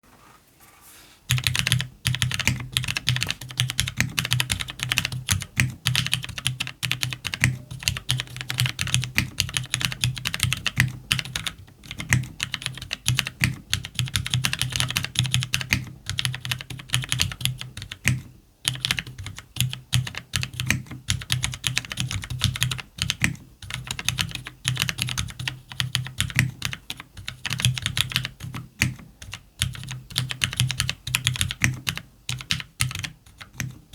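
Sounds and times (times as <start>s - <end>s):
fast mechanical keyboard typing: 1.3s - 33.9s.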